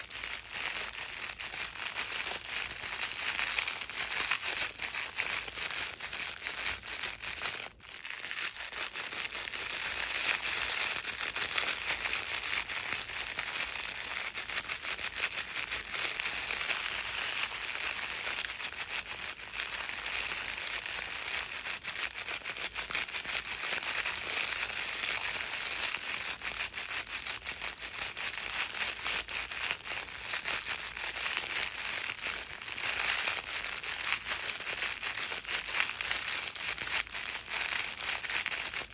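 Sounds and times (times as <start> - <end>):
plastic film crinkling: 0.0 - 38.9.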